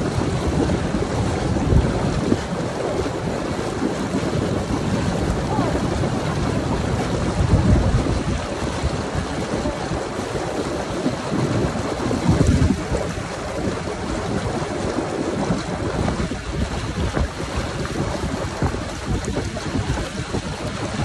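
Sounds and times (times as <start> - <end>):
water splashing in hot tub: 0.0 - 21.0
wind buffeting microphone: 0.0 - 21.0.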